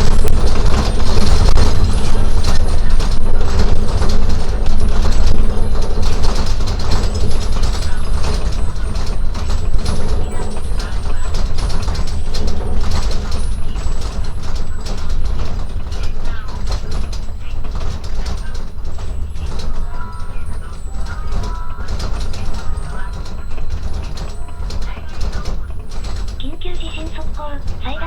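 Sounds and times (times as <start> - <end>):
heavy low rumble: 0.0 - 28.0
objects rattling and clattering: 0.0 - 28.0.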